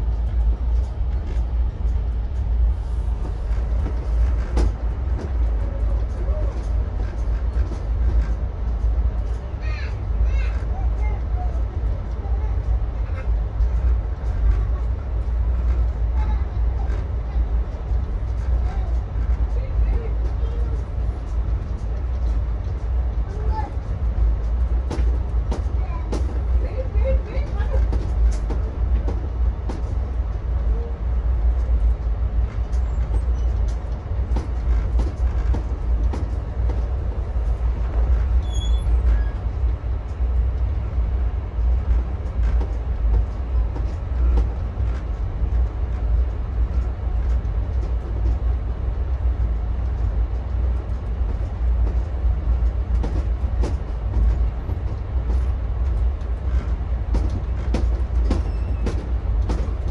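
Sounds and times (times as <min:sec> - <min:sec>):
train rumbling: 0:00.0 - 0:59.9
wheels clicking on track: 0:00.1 - 0:59.9.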